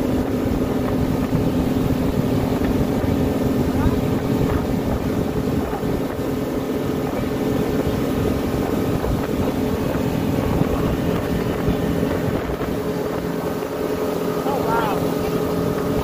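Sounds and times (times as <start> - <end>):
motorboat engine drone: 0.0 - 16.0
wind buffeting microphone: 0.0 - 16.0.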